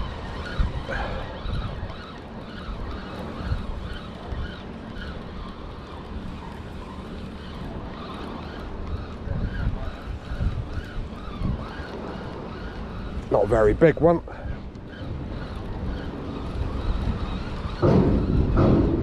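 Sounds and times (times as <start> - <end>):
fishing reel whirring: 0.0 - 17.8
wind buffeting microphone: 0.0 - 19.0.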